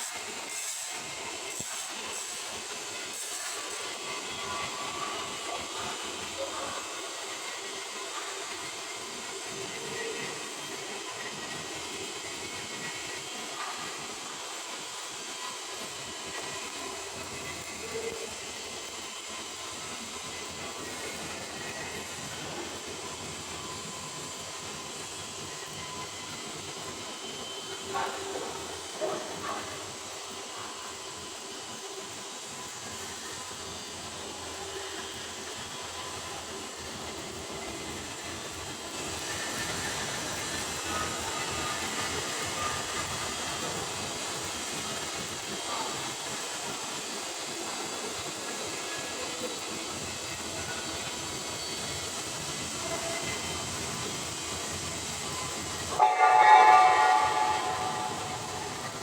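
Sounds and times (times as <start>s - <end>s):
welding arc hissing and crackling: 0.0s - 59.0s.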